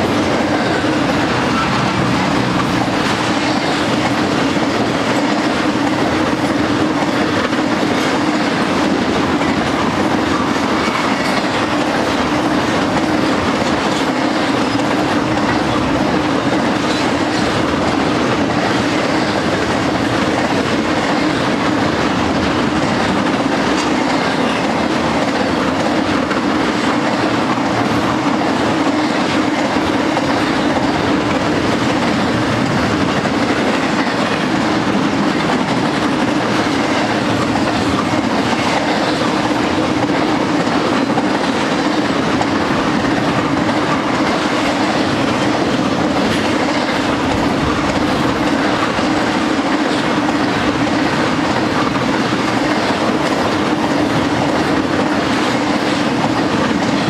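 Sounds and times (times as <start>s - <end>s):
freight train rolling on rails: 0.0s - 57.0s.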